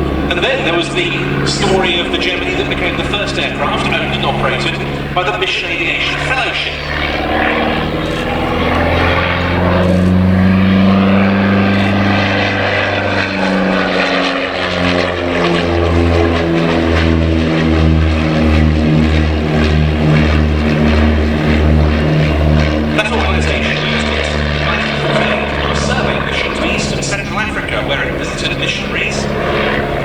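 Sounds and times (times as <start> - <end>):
light aircraft flying past: 0.0 - 30.0.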